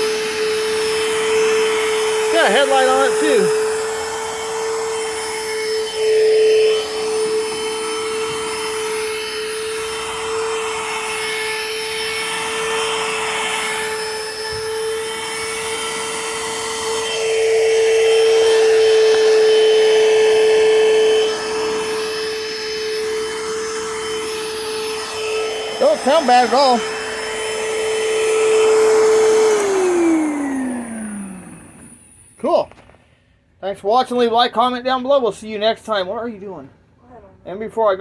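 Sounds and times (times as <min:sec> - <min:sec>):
handheld vacuum cleaner running: 0:00.0 - 0:32.5.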